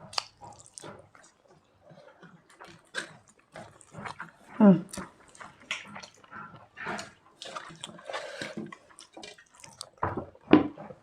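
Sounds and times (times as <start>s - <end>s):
food being mixed and eaten: 0.0s - 11.0s.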